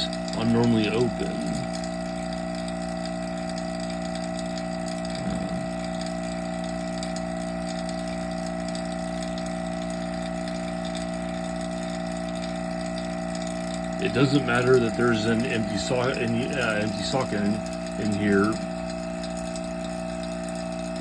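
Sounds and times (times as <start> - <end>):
vacuum pump humming: 0.0 - 21.0.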